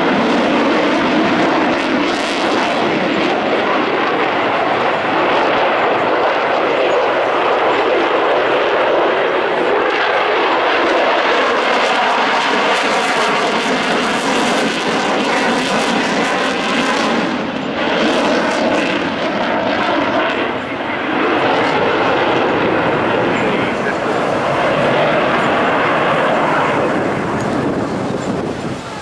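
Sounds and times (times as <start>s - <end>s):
loud jet engine noise: 0.0s - 29.0s.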